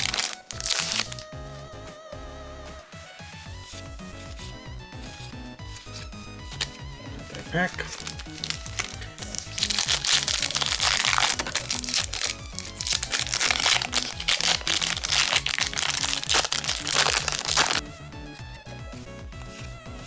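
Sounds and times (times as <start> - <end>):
foil pack crinkling: 0.0 - 1.3, 3.5 - 20.0
background music: 0.0 - 20.0.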